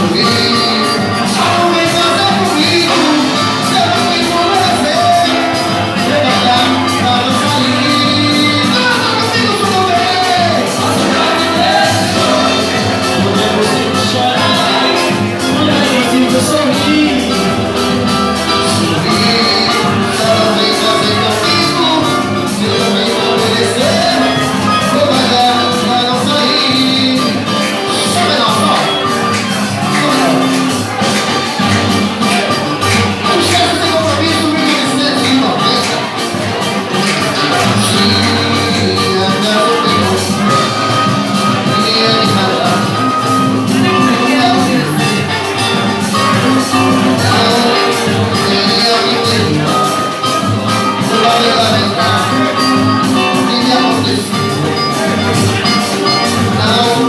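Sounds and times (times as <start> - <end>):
live band instrumental music: 0.0 - 57.0.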